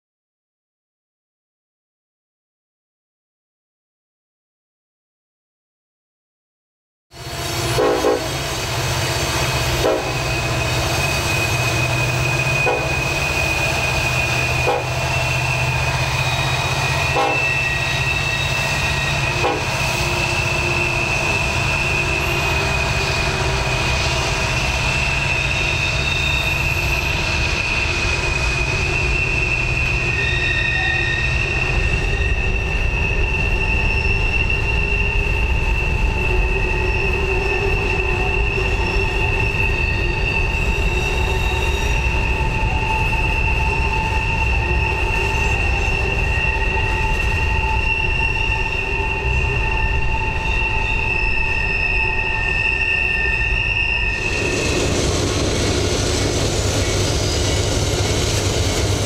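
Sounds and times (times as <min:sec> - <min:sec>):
freight train rumbling: 0:07.1 - 0:59.0
wheel flanges squealing on rail: 0:07.2 - 0:59.0.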